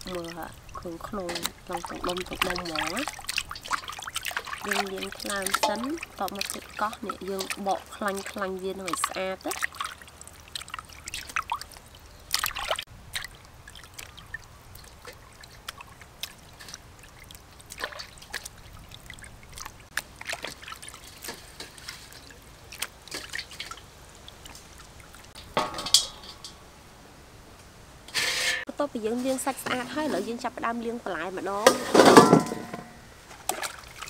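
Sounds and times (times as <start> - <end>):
water splashing in a steel bowl: 0.0 - 26.6, 28.2 - 34.0.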